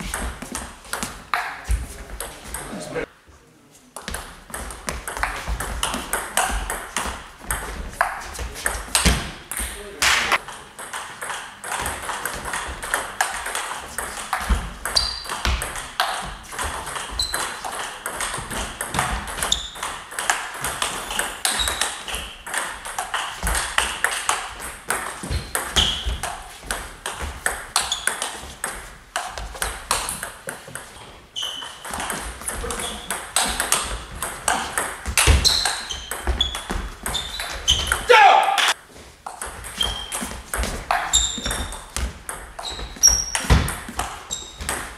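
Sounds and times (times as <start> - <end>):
table tennis balls clicking: 4.0 - 9.8, 10.4 - 38.1, 39.3 - 44.9.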